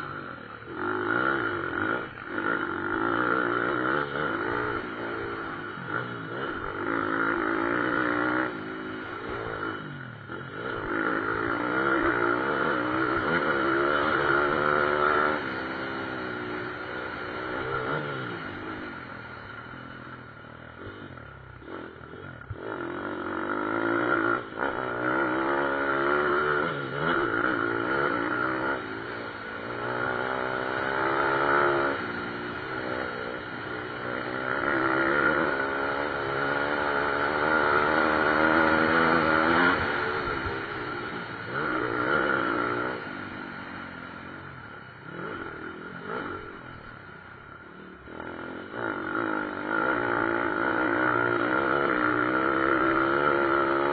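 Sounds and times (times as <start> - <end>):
motorcycle engines racing past: 0.0 - 53.9.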